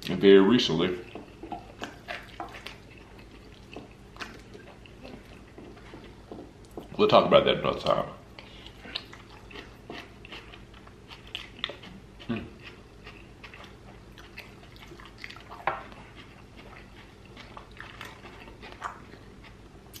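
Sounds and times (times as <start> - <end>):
chewing and wet mouth noises: 0.8 - 7.0, 8.3 - 20.0.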